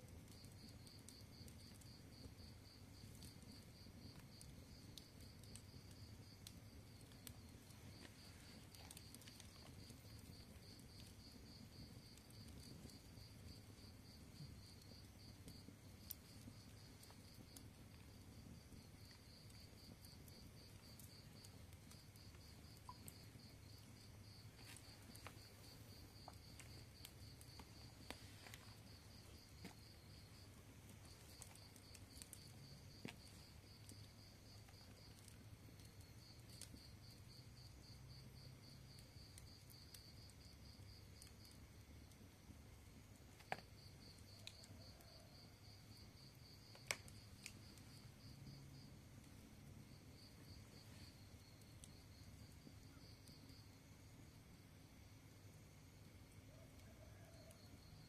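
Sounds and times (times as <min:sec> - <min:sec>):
wood fire crackling: 0:00.0 - 0:58.0
cricket chirping: 0:00.2 - 0:58.0.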